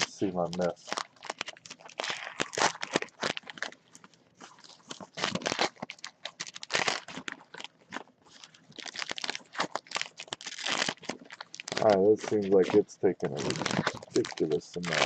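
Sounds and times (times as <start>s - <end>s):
wrappers tearing and crinkling: 0.0s - 15.0s.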